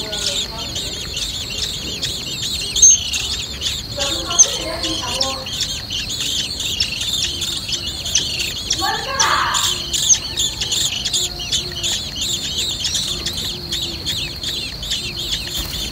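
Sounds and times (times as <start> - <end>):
nestlings chirping: 0.0 - 15.9.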